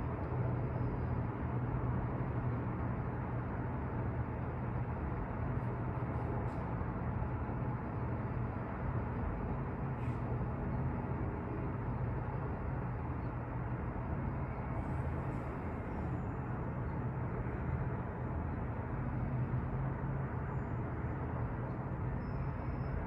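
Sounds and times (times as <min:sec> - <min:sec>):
constant low hum: 0:00.0 - 0:23.0
traffic: 0:00.0 - 0:23.0.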